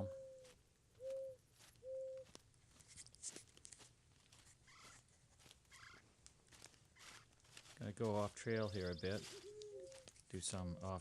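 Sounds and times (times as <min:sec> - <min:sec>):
footsteps crunching on frozen ground: 0:00.4 - 0:11.0.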